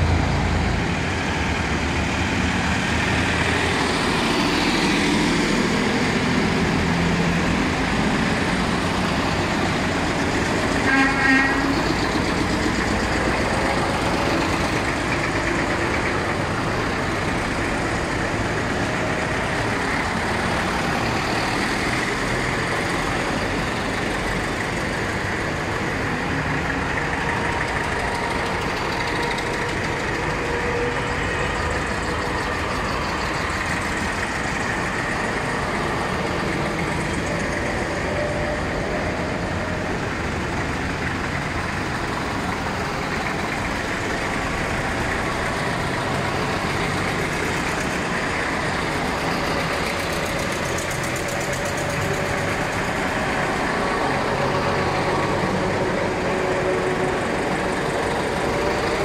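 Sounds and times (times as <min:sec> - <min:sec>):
tractors driving past: 0:00.0 - 0:59.0.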